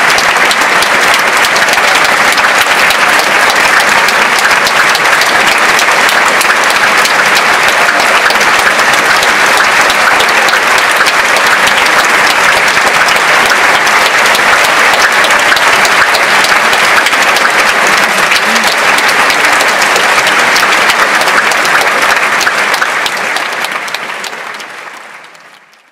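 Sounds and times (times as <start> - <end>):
audience applauding: 0.0 - 25.9.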